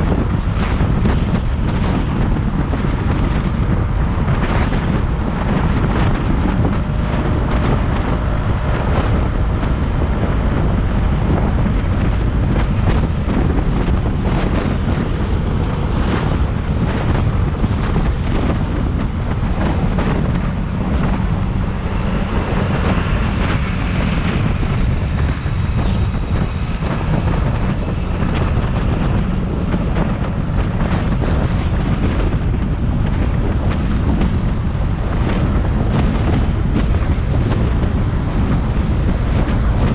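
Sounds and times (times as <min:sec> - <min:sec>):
motorcycle road noise: 0:00.0 - 0:39.9
wind on microphone: 0:00.0 - 0:39.9.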